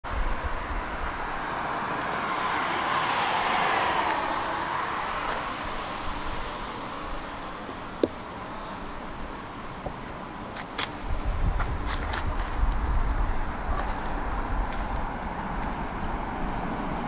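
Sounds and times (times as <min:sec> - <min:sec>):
vehicle passing by: 0:00.1 - 0:08.0, 0:11.0 - 0:17.0.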